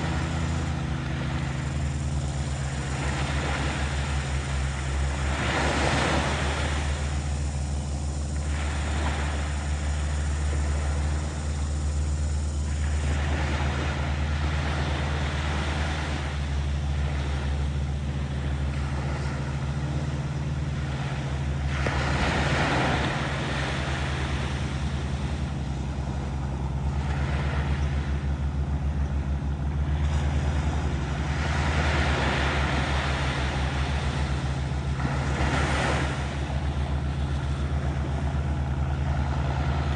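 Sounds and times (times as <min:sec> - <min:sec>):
motorboat engine droning: 0:00.0 - 0:39.9
waves washing: 0:00.0 - 0:39.9.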